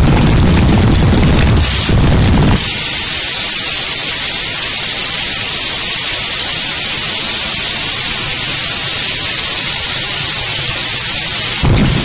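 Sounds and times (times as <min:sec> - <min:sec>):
harsh static hiss noise music: 0:00.0 - 0:12.0.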